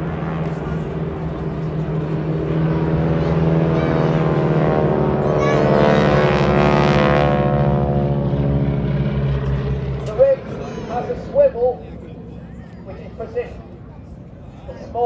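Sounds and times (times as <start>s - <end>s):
propeller plane engine passing: 0.0s - 15.0s.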